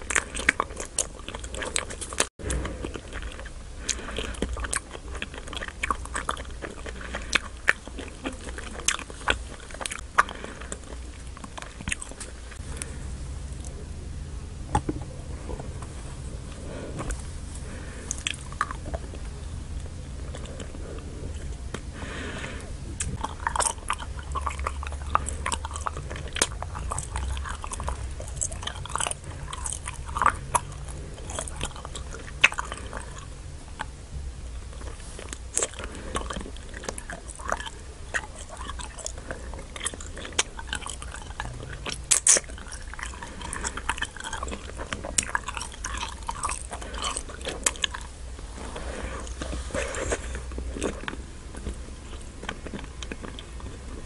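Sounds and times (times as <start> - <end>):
wax candy being chewed: 0.0 - 13.9, 14.7 - 54.0.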